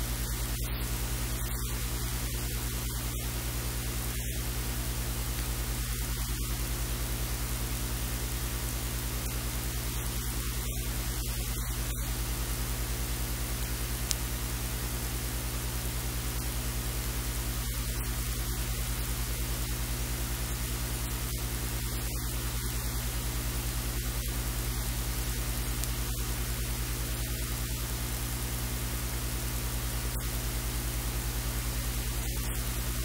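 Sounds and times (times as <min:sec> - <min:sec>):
electrical hiss: 0:00.0 - 0:33.0.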